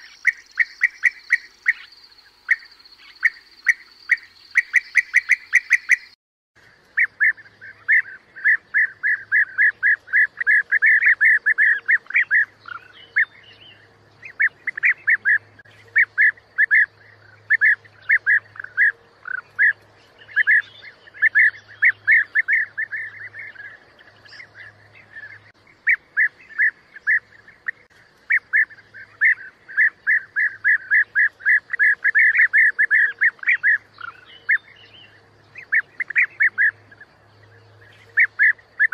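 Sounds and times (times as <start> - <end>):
birds rolling calls: 0.0 - 6.1, 6.9 - 38.9.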